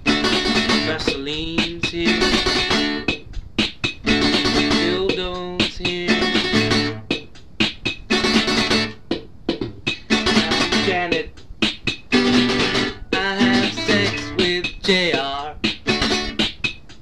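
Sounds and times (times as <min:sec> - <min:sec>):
plucked guitar with sliding notes: 0:00.0 - 0:03.3, 0:03.9 - 0:09.1, 0:09.8 - 0:16.8
sharp percussive strikes: 0:00.0 - 0:17.0.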